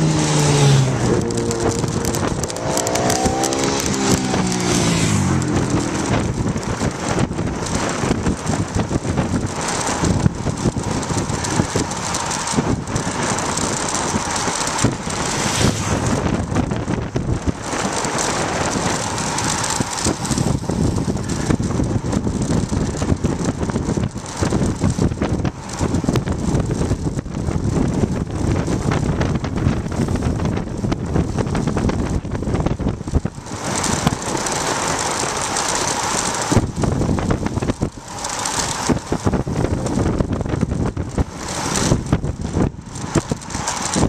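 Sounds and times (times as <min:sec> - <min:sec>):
bike rolling noise: 0:00.0 - 0:44.0
wind rushing over microphone: 0:00.0 - 0:44.0.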